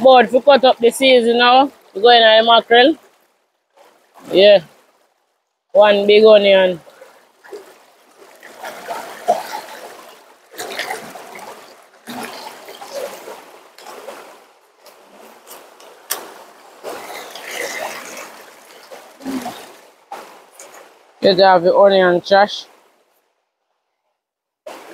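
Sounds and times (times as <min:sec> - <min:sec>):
water splashing and trickling: 0:00.0 - 0:23.4, 0:24.7 - 0:24.9.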